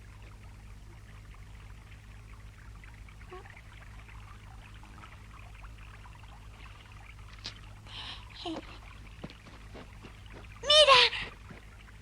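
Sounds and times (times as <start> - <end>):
steady low hum: 0.0 - 12.0
water trickling and dripping: 0.0 - 12.0.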